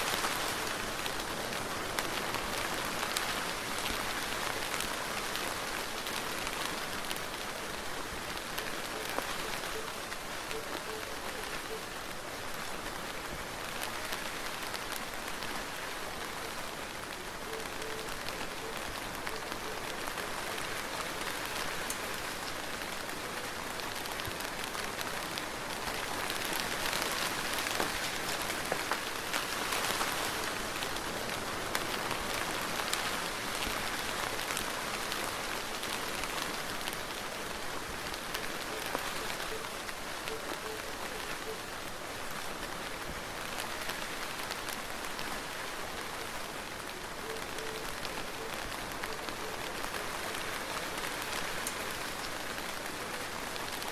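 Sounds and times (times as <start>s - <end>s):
soft rain falling: 0.0s - 53.9s.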